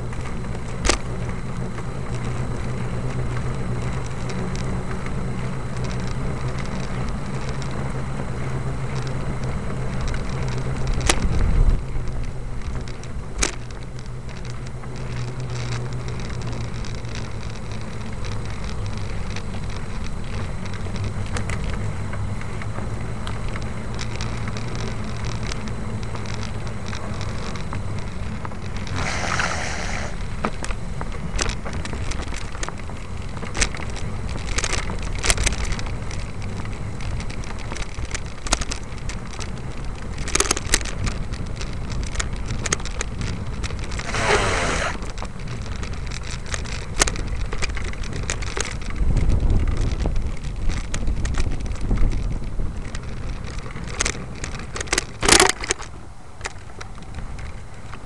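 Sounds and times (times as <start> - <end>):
vehicle rumbling along street: 0.0 - 58.0.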